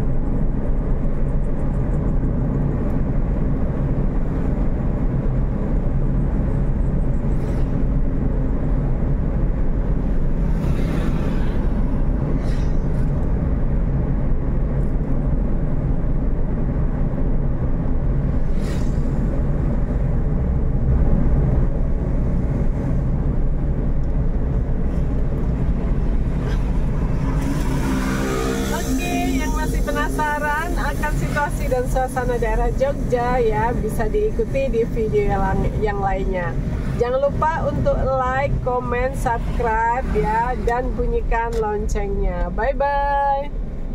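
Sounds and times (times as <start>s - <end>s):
passing vehicles rushing: 0.0s - 42.8s
vehicle engine and road rumble: 0.0s - 43.9s.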